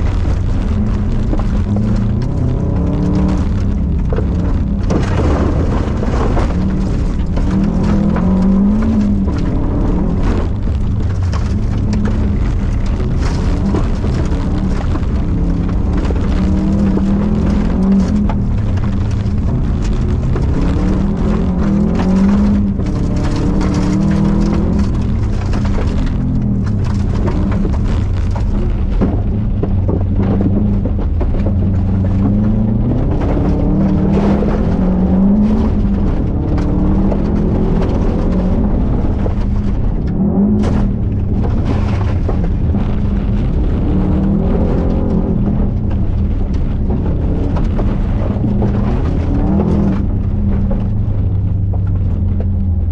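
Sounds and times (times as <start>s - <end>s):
car engine revving: 0.0s - 52.9s
tyres on gravel: 0.0s - 52.9s.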